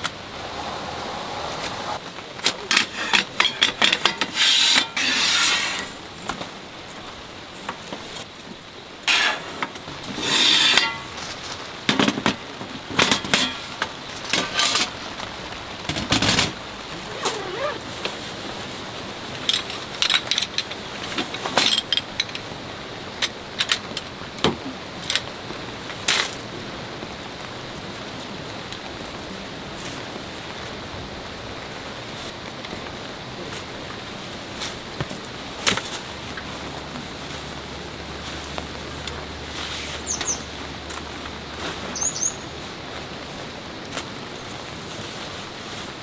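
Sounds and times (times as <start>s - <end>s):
rain hiss: 0.0s - 46.0s.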